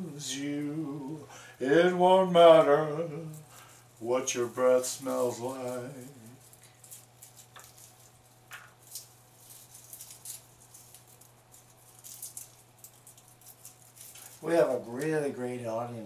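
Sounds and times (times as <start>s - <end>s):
fingers peeling garlic skins: 0.0s - 15.2s
steady low hum: 0.0s - 16.0s.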